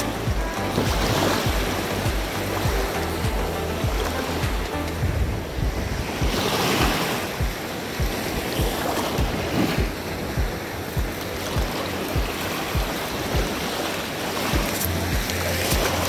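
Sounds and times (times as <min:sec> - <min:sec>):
surf washing on beach: 0:00.0 - 0:16.0
wind on microphone: 0:00.0 - 0:16.0
low repeating thump: 0:00.3 - 0:13.5.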